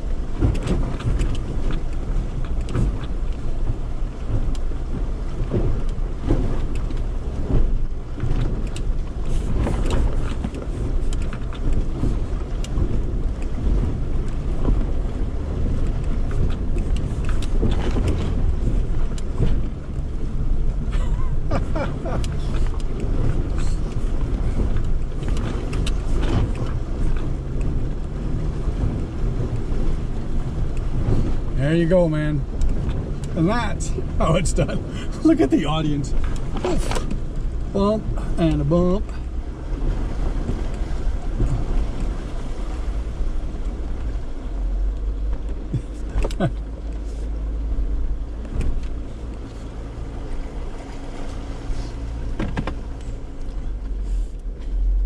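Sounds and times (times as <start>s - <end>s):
vehicle engine running: 0.0s - 55.0s
water sloshing and splashing: 0.0s - 55.0s.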